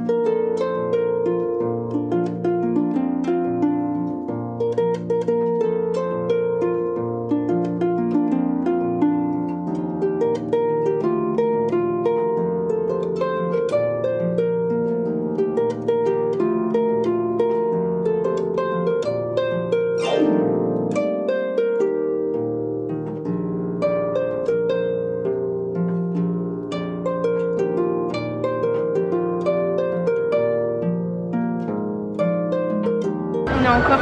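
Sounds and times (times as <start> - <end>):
harp melody: 0.0 - 34.0.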